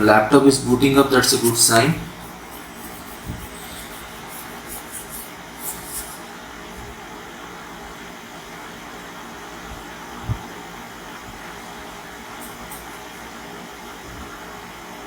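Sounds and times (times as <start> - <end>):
fan whirring: 0.0 - 15.0.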